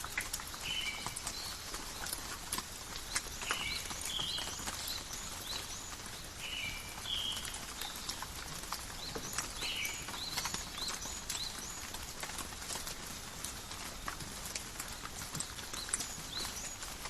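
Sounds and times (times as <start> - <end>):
light rain: 0.0 - 17.0
small birds chirping: 0.0 - 17.0.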